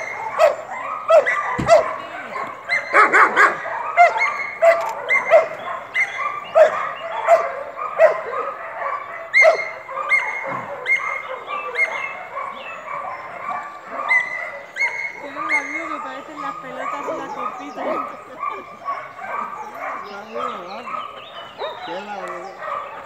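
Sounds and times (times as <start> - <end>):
dog barking: 0.0 - 23.0
dog yelping: 0.0 - 23.0.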